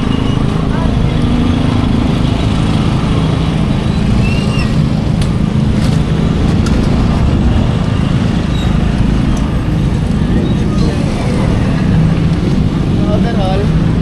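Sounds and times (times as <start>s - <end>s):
car approaching: 0.0s - 14.0s.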